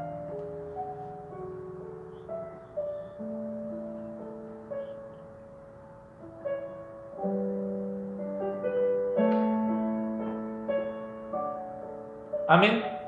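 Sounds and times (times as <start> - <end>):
soft piano-like chords: 0.0 - 13.0.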